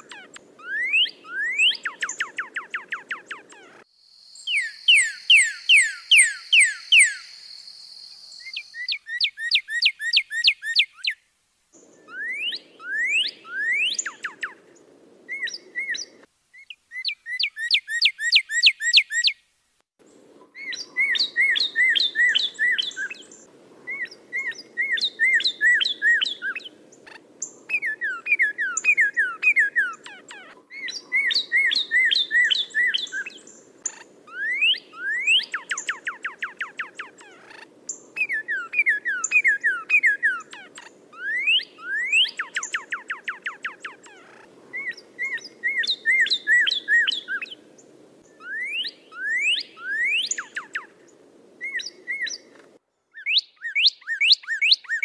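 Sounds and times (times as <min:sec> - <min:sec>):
songbird whistling: 0:00.0 - 0:03.7, 0:04.3 - 0:11.2, 0:11.9 - 0:14.6, 0:15.3 - 0:19.4, 0:20.6 - 0:26.7, 0:27.4 - 0:47.6, 0:48.2 - 0:51.0, 0:51.6 - 0:55.0.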